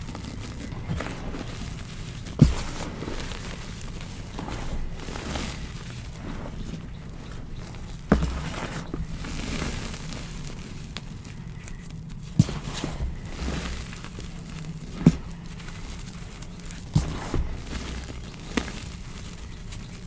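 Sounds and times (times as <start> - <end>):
hands crunching powder: 0.0 - 20.0
hands patting into powder: 0.0 - 20.0.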